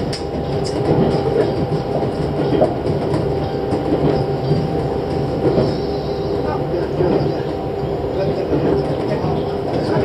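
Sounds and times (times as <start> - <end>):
train wheels on rail: 0.0 - 10.0.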